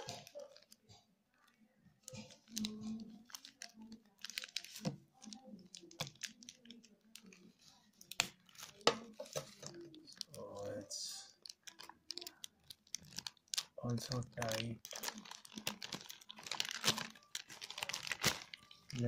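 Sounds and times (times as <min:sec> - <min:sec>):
crinkling wrapping: 0:00.0 - 0:19.0.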